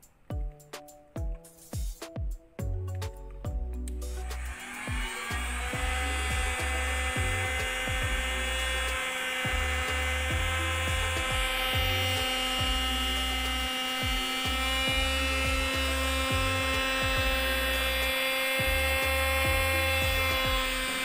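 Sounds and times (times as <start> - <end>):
electric air pump whining: 3.9 - 21.0.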